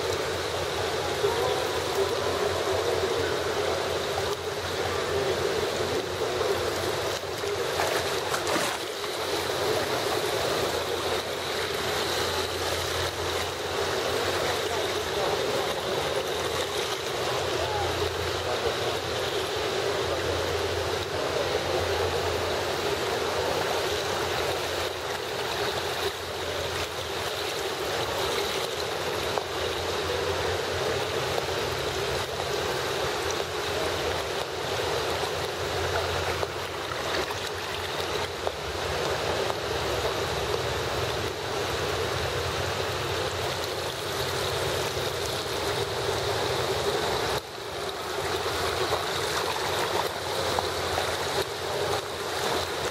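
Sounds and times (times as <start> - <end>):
water rushing and lapping in pool: 0.0 - 52.9.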